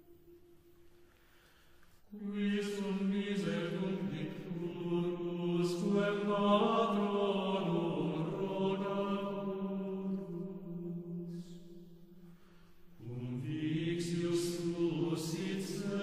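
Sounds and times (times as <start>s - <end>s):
low droning chant-like voices: 2.1s - 12.2s, 12.9s - 16.0s.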